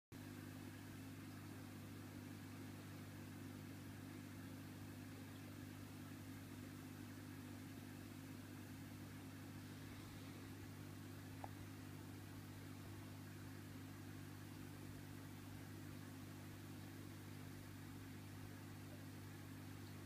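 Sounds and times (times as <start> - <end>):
low electric hum: 0.2 - 20.0
light hiss: 0.5 - 20.0.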